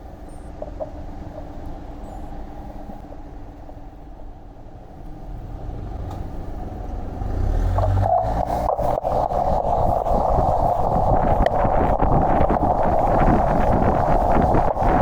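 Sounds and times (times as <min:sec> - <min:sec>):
motor vehicle hum and rumble: 0:00.0 - 0:15.0.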